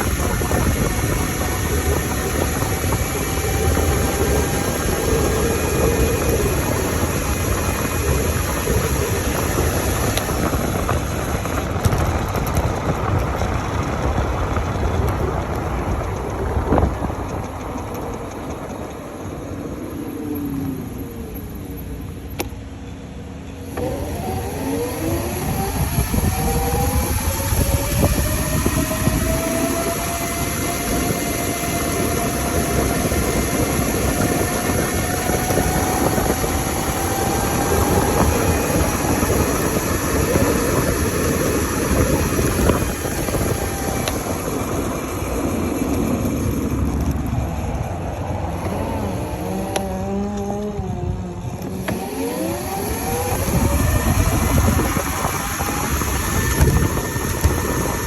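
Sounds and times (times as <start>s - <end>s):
electric motor whine: 0.0s - 58.0s
road and wind noise: 0.0s - 58.0s.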